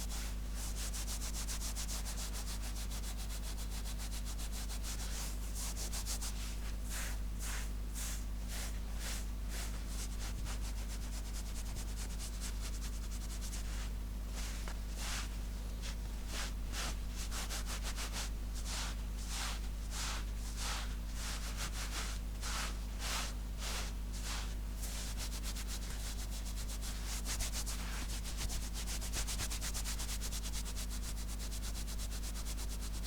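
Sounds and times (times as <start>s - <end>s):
scratching on fabric: 0.0s - 33.0s.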